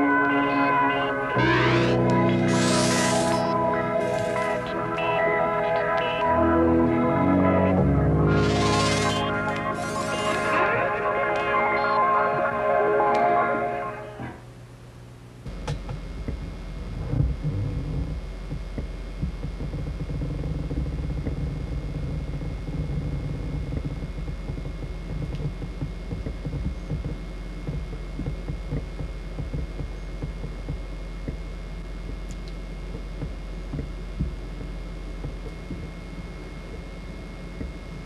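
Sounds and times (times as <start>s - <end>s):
faint high whine: 0.0s - 38.0s.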